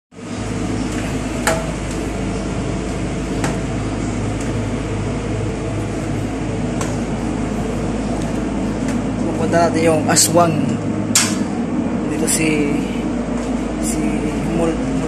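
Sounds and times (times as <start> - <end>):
machinery low drone: 0.1 - 15.0.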